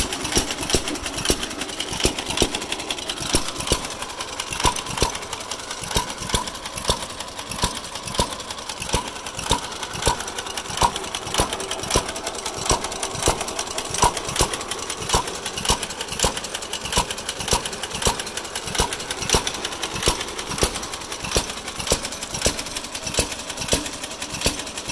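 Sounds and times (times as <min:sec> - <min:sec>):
lawn mower engine popping: 0:00.0 - 0:24.9.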